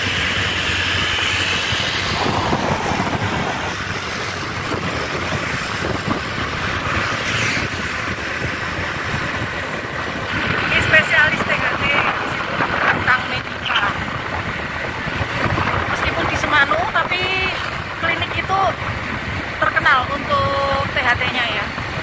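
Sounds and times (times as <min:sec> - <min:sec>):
vehicle engine and road rumble: 0:00.0 - 0:22.0.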